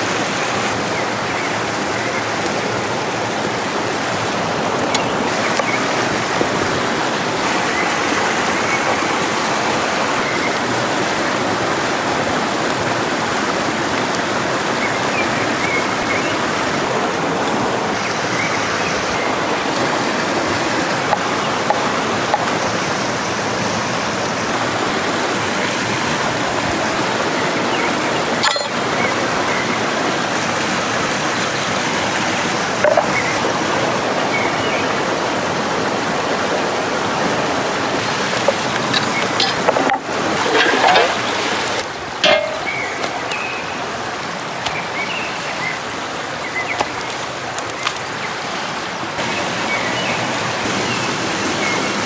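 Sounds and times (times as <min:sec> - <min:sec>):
stream water rushing: 0:00.0 - 0:52.0.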